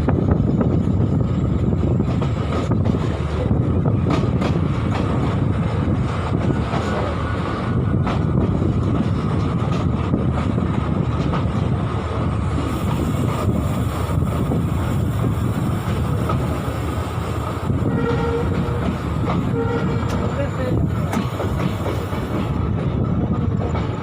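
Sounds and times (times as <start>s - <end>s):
train rumbling: 0.0s - 24.0s
wind buffeting microphone: 0.0s - 24.0s.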